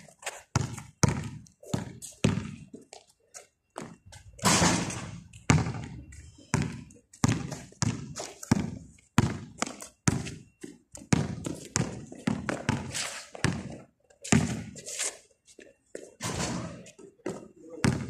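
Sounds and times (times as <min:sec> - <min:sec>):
basketball bouncing on concrete: 0:00.3 - 0:02.7, 0:03.8 - 0:14.8, 0:16.6 - 0:18.0.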